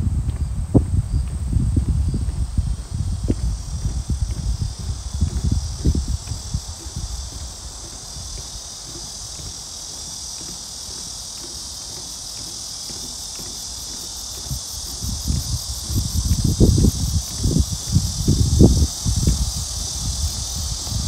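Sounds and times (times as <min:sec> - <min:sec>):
insect chorus chirring: 0:00.0 - 0:21.0
low irregular rumbling: 0:00.0 - 0:21.0.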